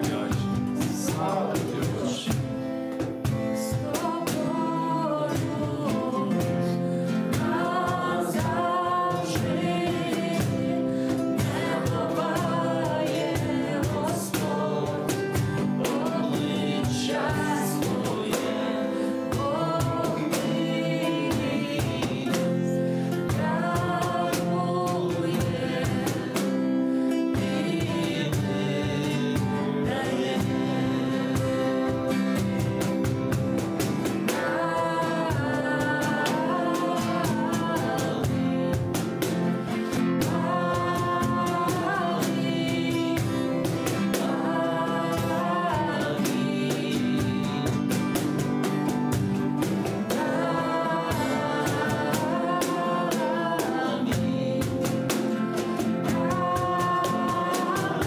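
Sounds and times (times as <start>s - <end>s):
person singing worship song: 0.0s - 33.3s, 34.0s - 48.9s, 49.8s - 58.0s.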